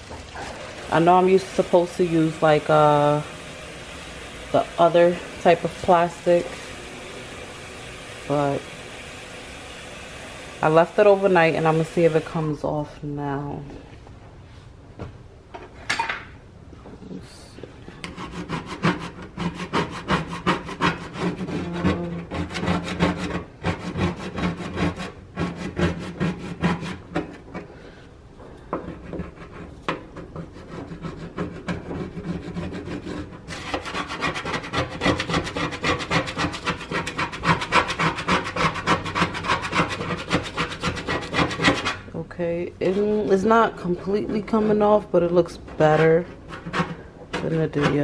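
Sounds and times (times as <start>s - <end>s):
scrubbing and scraping stove top: 0.0s - 12.8s, 18.0s - 48.0s.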